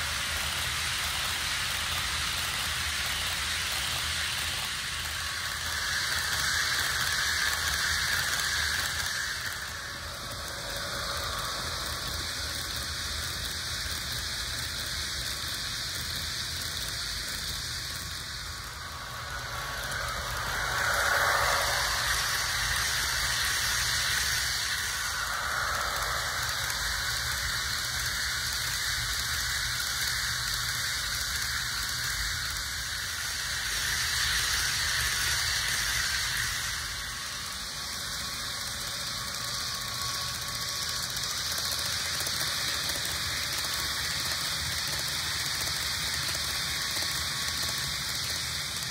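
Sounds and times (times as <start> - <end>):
model train whirring on track: 0.0 - 48.9.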